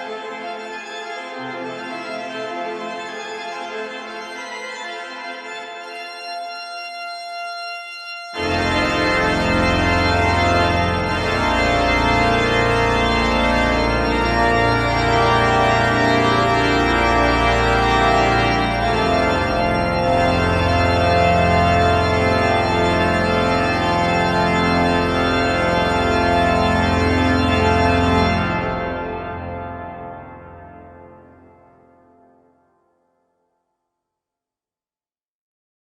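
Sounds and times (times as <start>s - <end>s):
pipe organ playing: 0.0s - 32.0s.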